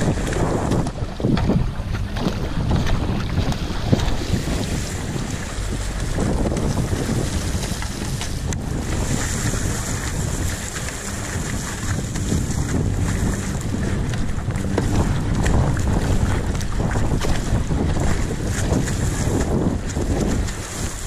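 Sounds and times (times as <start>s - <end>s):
kayak hull through choppy water: 0.0s - 21.0s
paddle strokes splashing water: 0.0s - 21.0s
wind buffeting the microphone: 0.0s - 21.0s.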